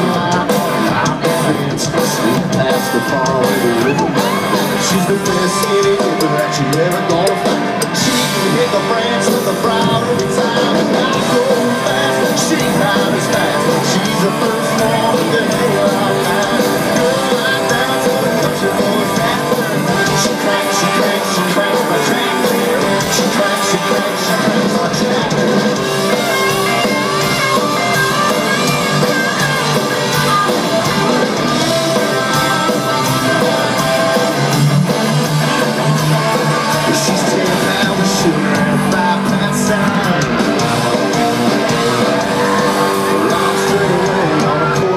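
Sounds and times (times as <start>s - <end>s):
country-rock band playing: 0.0s - 44.9s
man singing: 0.0s - 44.9s.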